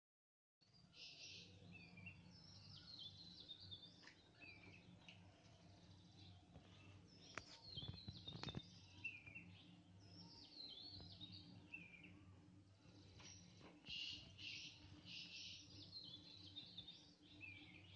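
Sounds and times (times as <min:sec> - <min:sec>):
faint birdsong chirping: 0:00.6 - 0:17.9.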